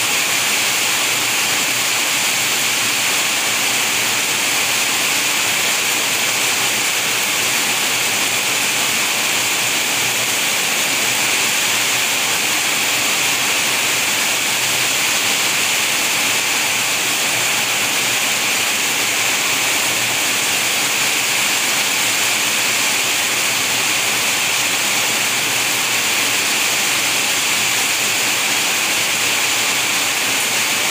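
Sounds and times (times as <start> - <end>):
heavy rain falling: 0.1 - 30.9.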